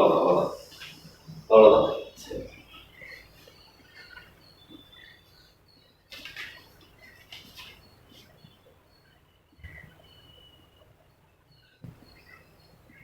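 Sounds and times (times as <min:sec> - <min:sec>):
faint high bird chirps: 0:00.6 - 0:13.0.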